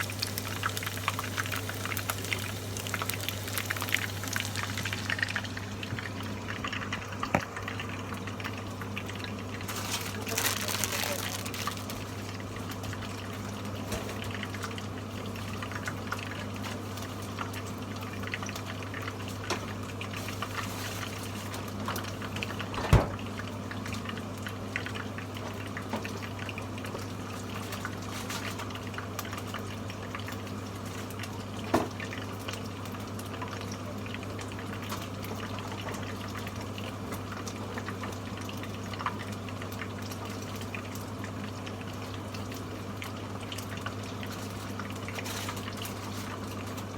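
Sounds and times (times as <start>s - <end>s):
chicken frying in hot oil: 0.0s - 46.9s.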